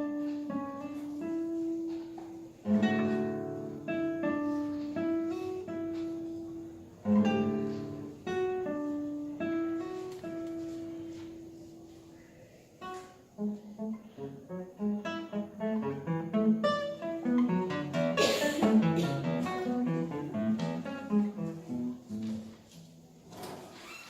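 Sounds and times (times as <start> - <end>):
plucked acoustic guitar: 0.0 - 11.6, 12.8 - 22.9.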